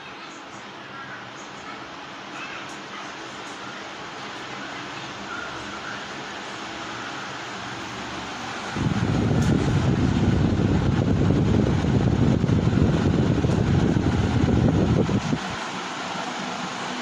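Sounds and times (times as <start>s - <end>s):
fan airflow buffeting microphone: 0.0s - 17.0s
fan steady hiss: 0.0s - 17.0s.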